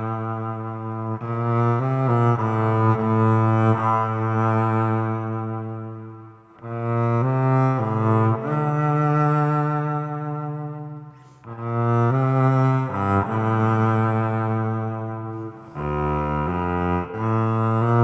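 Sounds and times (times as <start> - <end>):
bowed cello with reverb: 0.0 - 18.0.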